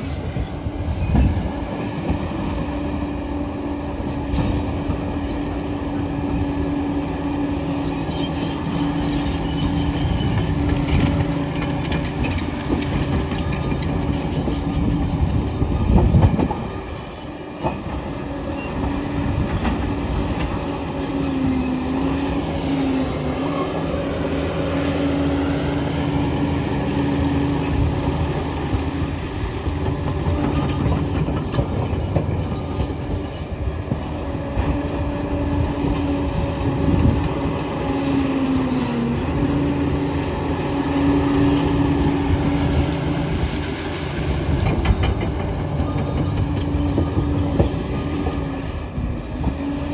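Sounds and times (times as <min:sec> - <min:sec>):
dozer engine whining: 0:00.0 - 0:49.9
steel tracks clanking and squealing: 0:00.0 - 0:49.9.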